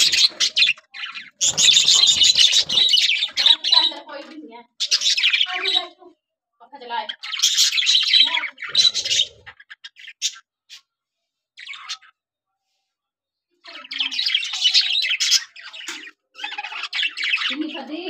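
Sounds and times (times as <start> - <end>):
budgerigars chattering and chirping: 0.0 - 6.0, 6.8 - 10.9, 11.6 - 12.2, 13.6 - 18.0.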